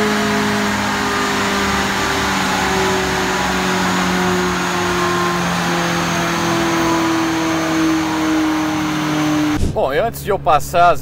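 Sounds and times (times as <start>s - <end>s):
car engine running on dynamometer: 0.0s - 9.7s.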